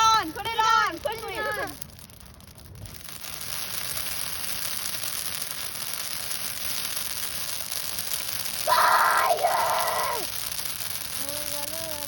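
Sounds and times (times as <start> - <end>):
branches crackling in campfire: 0.0 - 12.0.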